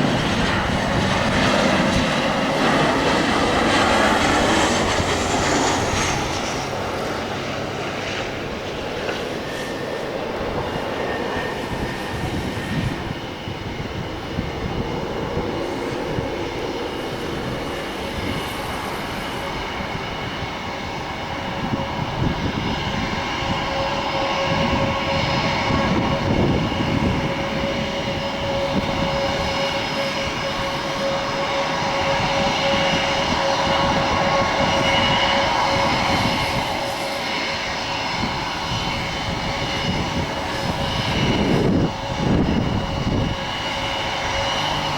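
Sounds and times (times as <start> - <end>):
jet engines whining and rumbling: 0.0 - 44.9.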